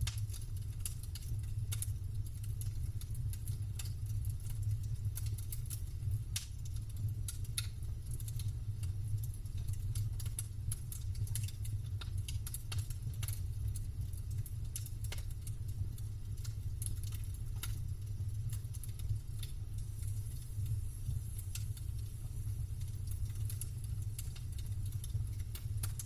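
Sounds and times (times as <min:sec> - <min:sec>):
campfire crackling: 0:00.0 - 0:26.0
low rumble of fire: 0:00.0 - 0:26.0.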